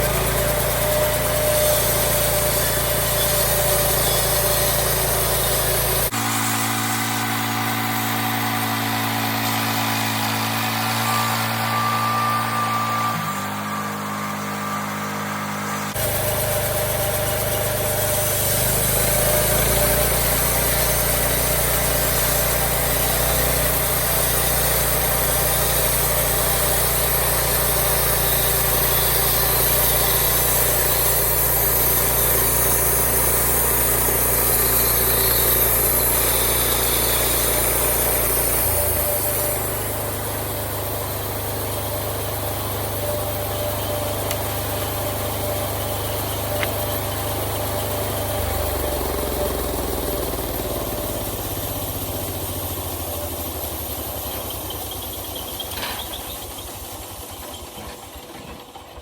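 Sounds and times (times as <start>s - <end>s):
saw blade cutting log: 0.0s - 59.0s
sawmill engine running: 0.0s - 59.0s.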